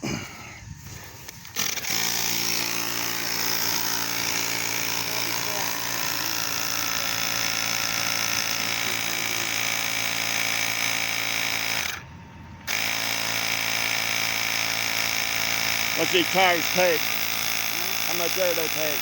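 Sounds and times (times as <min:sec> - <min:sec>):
electric air pump running: 0:00.0 - 0:19.0.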